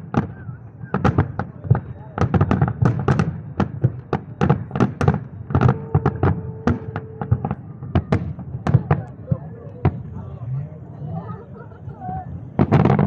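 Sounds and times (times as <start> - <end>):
fireworks bangs: 0.0 - 10.3, 12.4 - 13.0.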